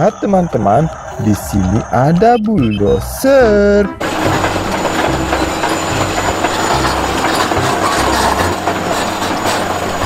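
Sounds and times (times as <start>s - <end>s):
bulldozer diesel engine under load: 0.0s - 10.0s
steel tracks clattering: 0.0s - 10.0s.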